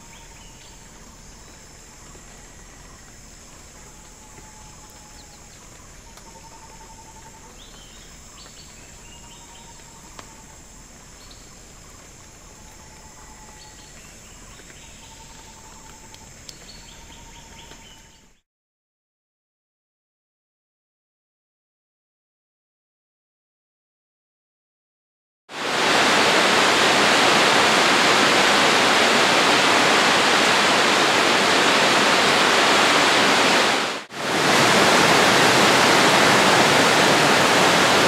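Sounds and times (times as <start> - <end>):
cicadas and crickets droning: 0.0 - 18.4, 25.6 - 38.0.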